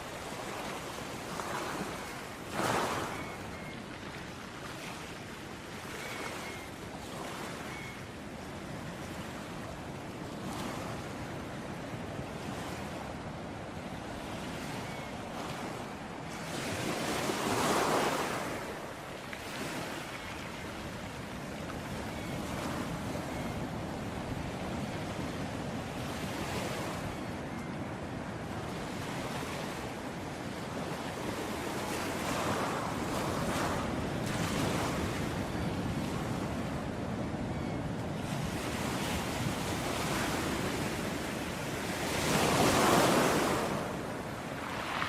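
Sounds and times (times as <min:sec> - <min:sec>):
ocean waves washing on beach: 0:00.0 - 0:45.0.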